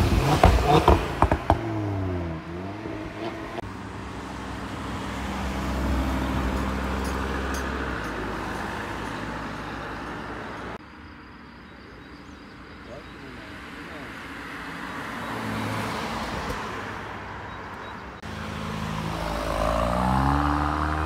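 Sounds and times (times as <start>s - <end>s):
car engines driving past: 0.0s - 10.8s, 13.3s - 21.0s
distant car: 0.0s - 21.0s.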